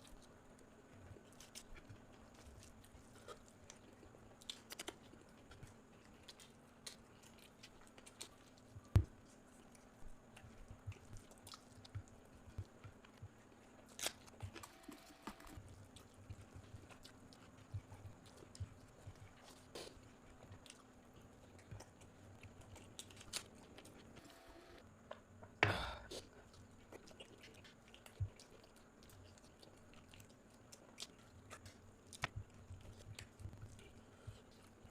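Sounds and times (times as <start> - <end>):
chewing and crunching food: 0.0 - 25.3, 26.1 - 34.9.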